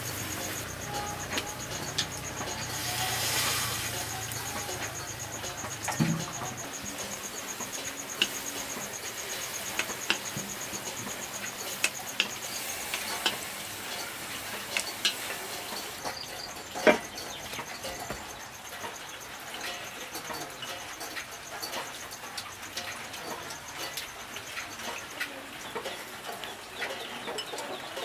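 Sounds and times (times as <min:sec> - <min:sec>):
soup simmering hiss: 0:00.0 - 0:28.0.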